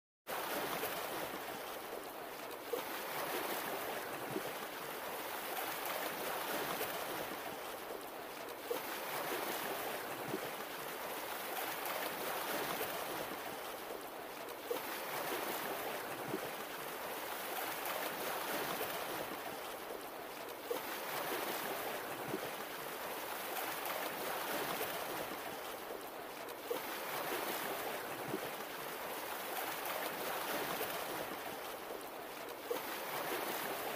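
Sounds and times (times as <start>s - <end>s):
ocean waves washing onto beach: 0.3s - 33.9s.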